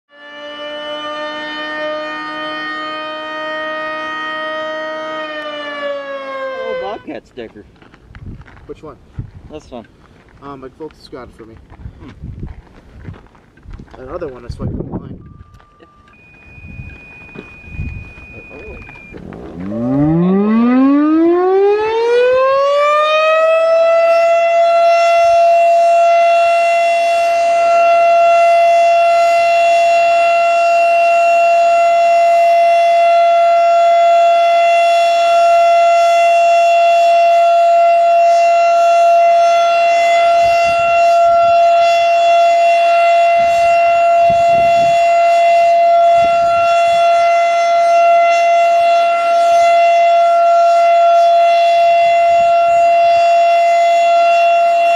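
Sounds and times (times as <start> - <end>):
warning siren winding up: 0.1 - 7.1, 15.2 - 54.9.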